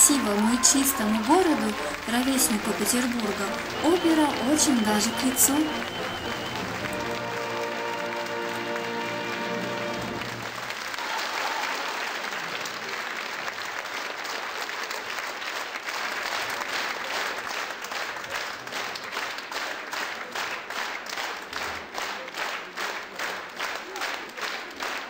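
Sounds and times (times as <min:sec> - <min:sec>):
audience applauding: 0:00.0 - 0:25.0
rhythmic clapping in unison: 0:00.0 - 0:25.0.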